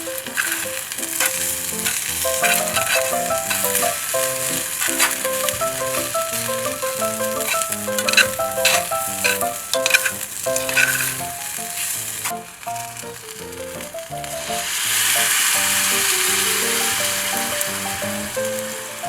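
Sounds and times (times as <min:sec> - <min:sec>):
food sizzling in a pan: 0:00.0 - 0:19.0
light melodic background music: 0:00.0 - 0:19.0.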